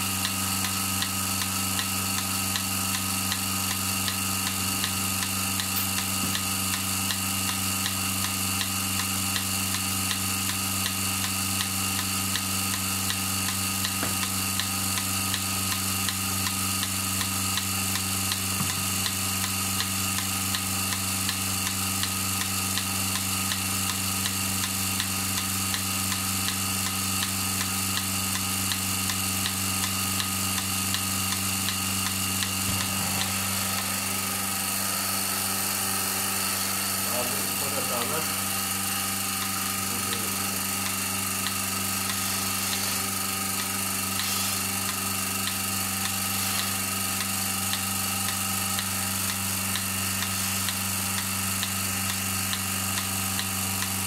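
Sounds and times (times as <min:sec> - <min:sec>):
vacuum pump motor humming: 0:00.0 - 0:54.0.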